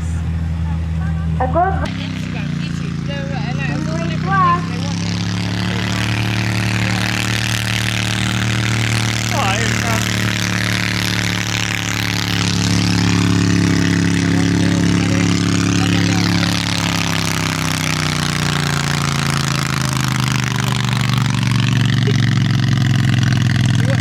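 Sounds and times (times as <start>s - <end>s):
tractor engine running under load: 0.0s - 24.0s.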